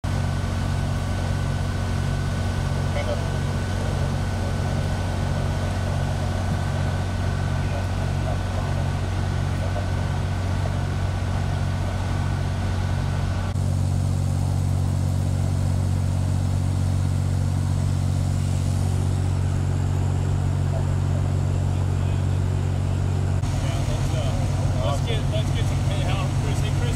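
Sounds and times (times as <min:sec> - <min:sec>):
diesel engine idling: 0:00.0 - 0:26.9.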